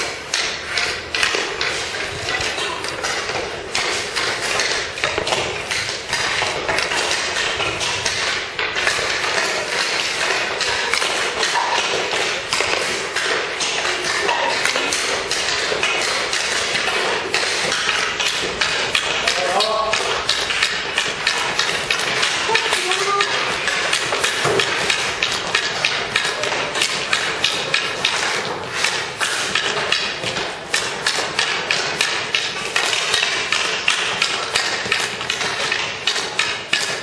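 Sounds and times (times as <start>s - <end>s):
skates scraping on ice: 0.0s - 33.5s
hockey sticks and pucks clacking: 0.0s - 37.0s.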